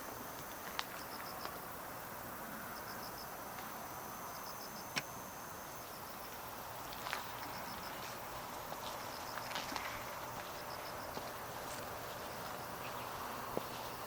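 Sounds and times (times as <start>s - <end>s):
insect chirping: 0.0s - 14.0s
steady high-pitched whine: 0.0s - 14.0s.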